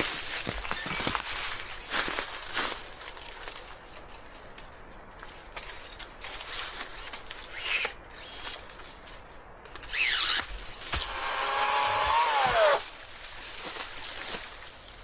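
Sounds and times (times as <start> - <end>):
rustling and scraping: 0.0 - 10.9, 12.3 - 15.0.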